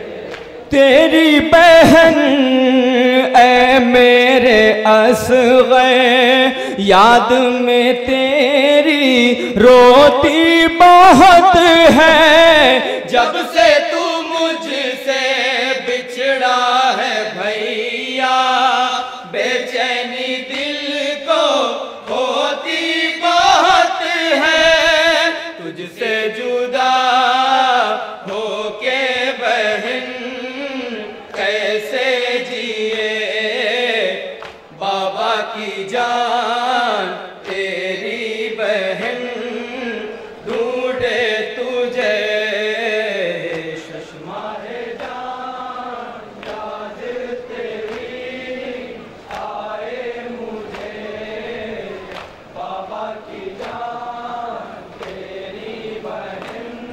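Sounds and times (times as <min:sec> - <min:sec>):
men chanting through microphones: 0:00.0 - 0:56.9.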